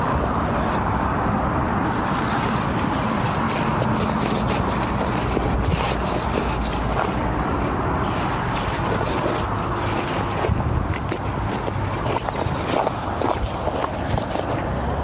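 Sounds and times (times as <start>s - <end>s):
steady low rumble: 0.0s - 15.0s
fabric rustling and scraping: 1.8s - 15.0s.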